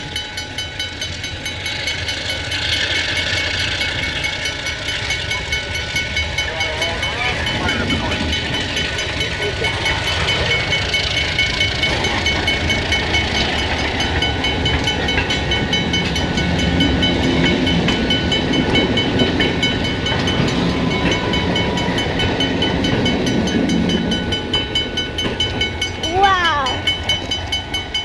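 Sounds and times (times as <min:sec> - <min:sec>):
crossing signal bell ringing: 0:00.0 - 0:28.0
diesel locomotive engines: 0:00.0 - 0:28.0
tank cars clattering: 0:01.0 - 0:28.0.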